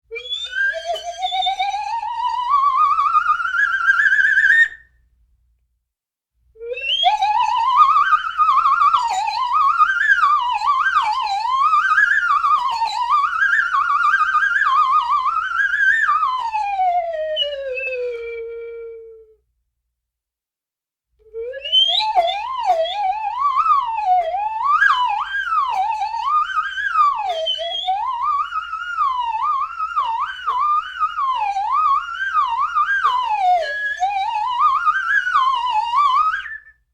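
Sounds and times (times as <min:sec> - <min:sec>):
slide whistle: 0:00.1 - 0:05.0, 0:06.6 - 0:19.4, 0:21.2 - 0:36.9.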